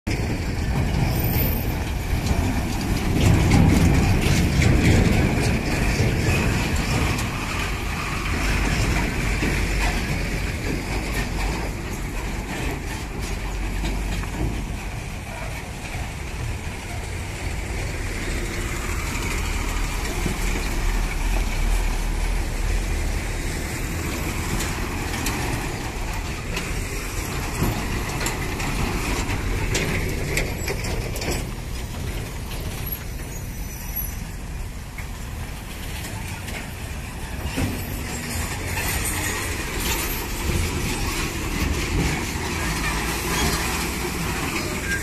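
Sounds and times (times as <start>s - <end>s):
diesel trucks driving past: 0.1s - 45.0s.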